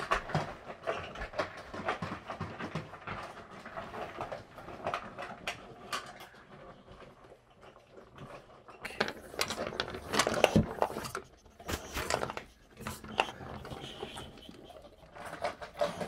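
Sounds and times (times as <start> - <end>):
dogs crunching kibble: 0.0 - 16.0.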